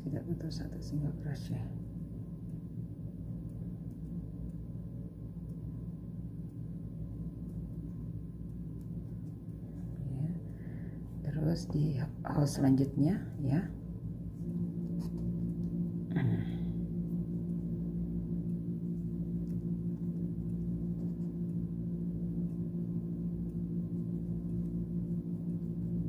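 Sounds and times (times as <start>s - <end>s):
low-pitched hum: 0.0s - 26.0s.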